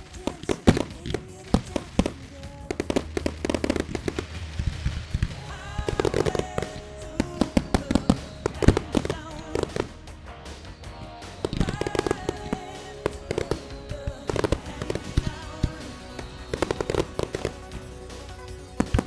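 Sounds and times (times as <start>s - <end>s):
fireworks bursting: 0.0s - 19.0s
loud music: 0.0s - 19.0s.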